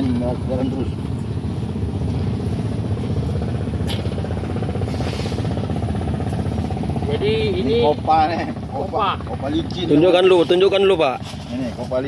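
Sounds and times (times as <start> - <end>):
low engine rumble pulsing: 0.0 - 12.0.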